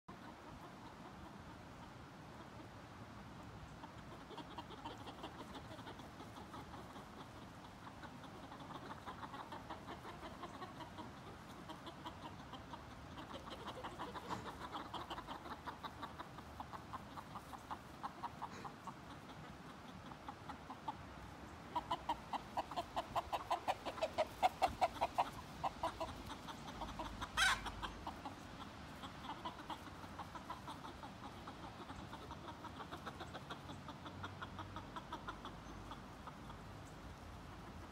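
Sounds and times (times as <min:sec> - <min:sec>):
chickens clucking: 0:00.1 - 0:37.9.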